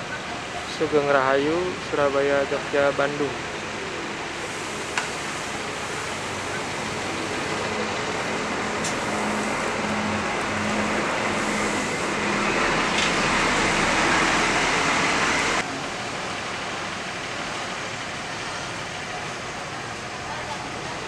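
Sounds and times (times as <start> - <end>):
loud rushing noise: 0.0 - 19.6
bus diesel engine: 0.0 - 21.0
steady traffic noise: 0.0 - 21.0.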